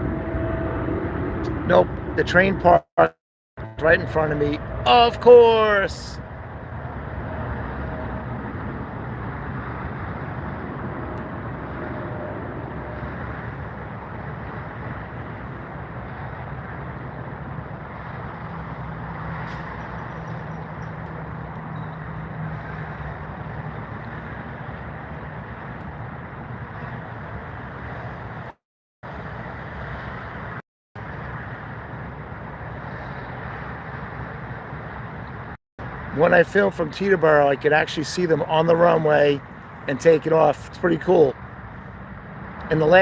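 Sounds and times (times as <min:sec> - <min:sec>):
engines and road traffic rumble: 0:00.0 - 0:43.0.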